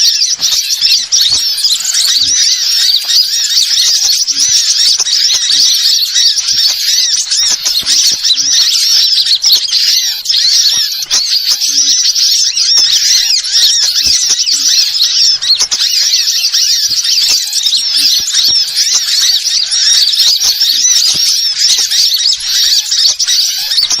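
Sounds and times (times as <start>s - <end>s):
small birds twittering: 0.0s - 24.0s.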